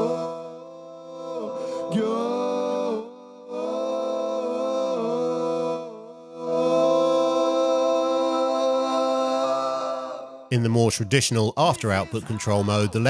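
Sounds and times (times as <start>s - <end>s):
person singing long notes: 0.0s - 10.6s.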